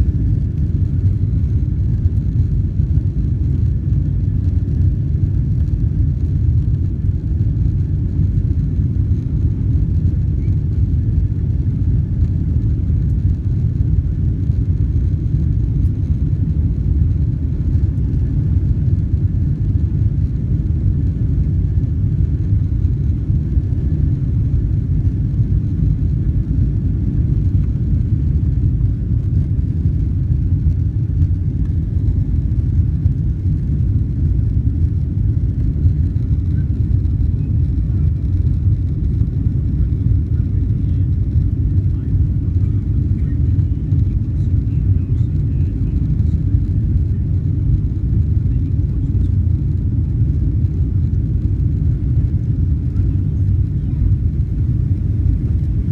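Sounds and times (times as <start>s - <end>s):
jet engines rumbling: 0.0s - 55.9s.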